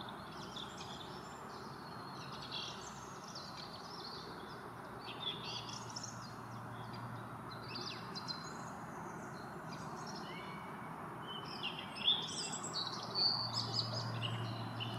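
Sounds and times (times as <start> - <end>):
songbirds twittering: 0.0 - 14.9.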